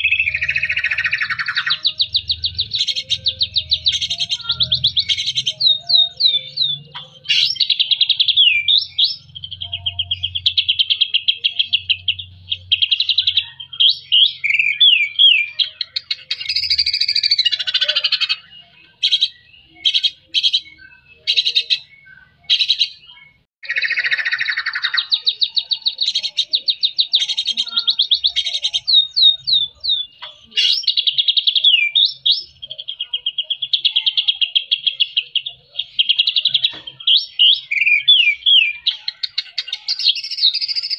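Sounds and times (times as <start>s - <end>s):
bird singing trills and whistles: 0.0s - 40.9s
harsh chattering bird phrases: 0.0s - 40.9s.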